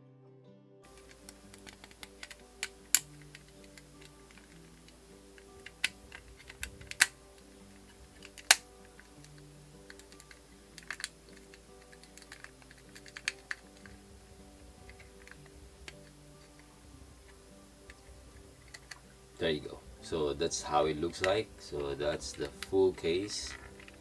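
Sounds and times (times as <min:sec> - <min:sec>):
soft background music: 0:00.0 - 0:24.0
plastic clicks and snaps: 0:00.9 - 0:19.2, 0:21.1 - 0:24.0.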